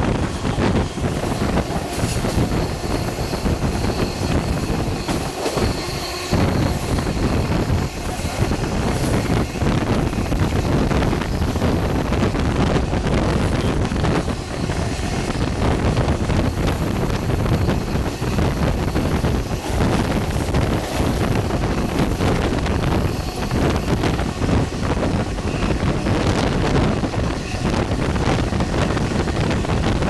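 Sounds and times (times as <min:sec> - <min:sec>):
train rumbling and clattering on rails: 0:00.0 - 0:30.0
wind buffeting microphone: 0:00.0 - 0:30.0.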